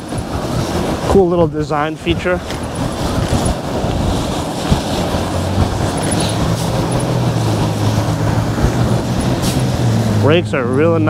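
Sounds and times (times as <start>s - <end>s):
road noise: 0.0s - 11.0s
wind on microphone: 0.0s - 11.0s.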